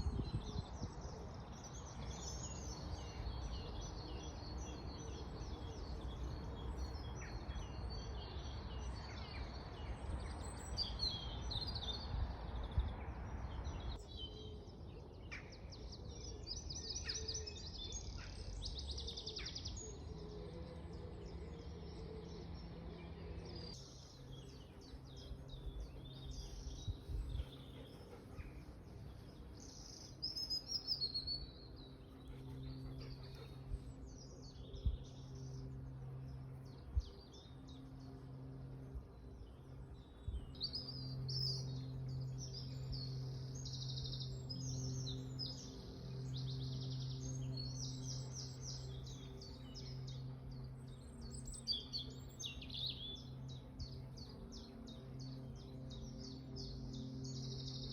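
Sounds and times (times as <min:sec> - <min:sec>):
songbirds singing: 0:00.0 - 0:57.9.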